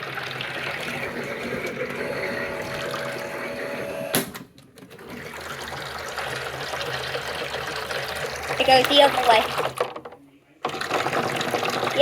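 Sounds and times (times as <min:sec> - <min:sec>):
water churning: 0:00.0 - 0:04.0, 0:05.0 - 0:09.9, 0:10.7 - 0:12.0
toy washing machine motor hum: 0:00.0 - 0:04.2, 0:04.9 - 0:12.0.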